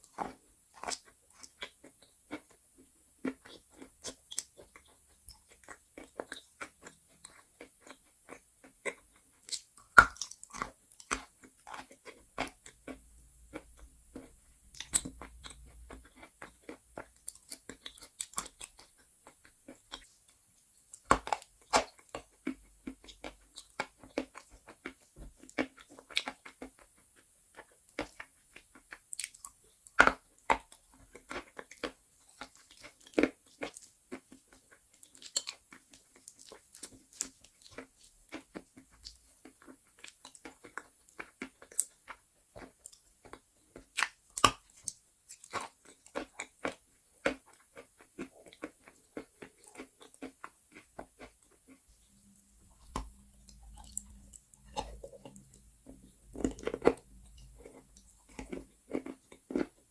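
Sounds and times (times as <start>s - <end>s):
chalk being crunched and chewed: 3.2s - 59.8s.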